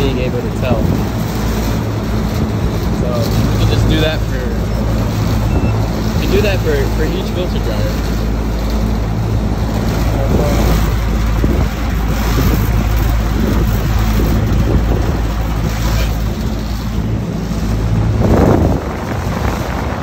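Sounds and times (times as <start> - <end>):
air conditioner compressor hum: 0.0 - 20.0
fan air rushing: 0.0 - 20.0.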